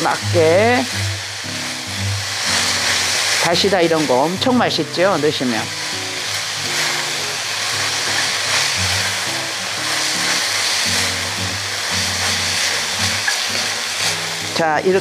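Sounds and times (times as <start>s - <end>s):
light background music: 0.0s - 15.0s
vegetables sizzling in a wok: 0.0s - 15.0s.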